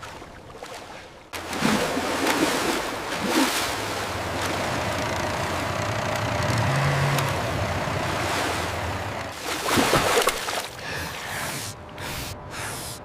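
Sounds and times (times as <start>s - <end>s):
rushing churning water: 0.0s - 10.9s
water splashes: 0.0s - 10.9s
low engine hum: 1.4s - 13.0s.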